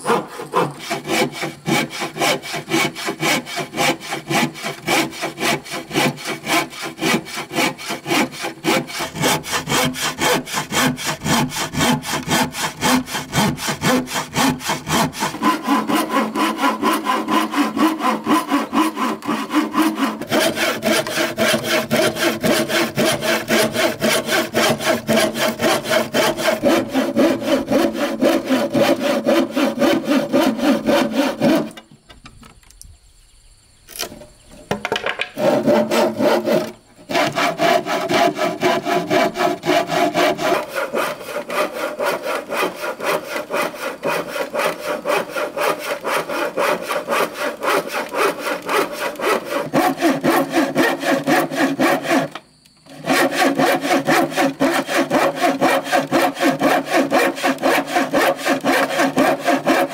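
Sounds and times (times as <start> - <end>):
hand saw cutting wood: 0.0 - 31.8, 35.2 - 59.9.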